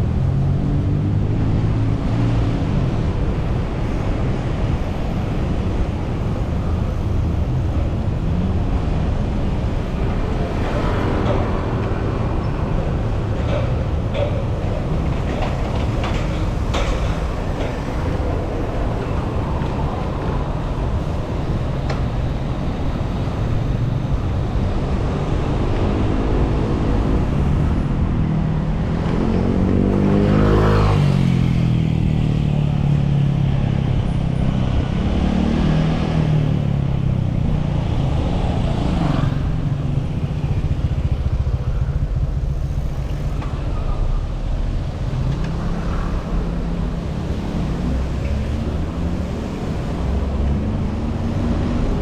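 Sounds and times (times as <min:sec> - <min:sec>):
low traffic rumble: 0:00.0 - 0:52.0
passing cars and motorcycles: 0:00.0 - 0:52.0.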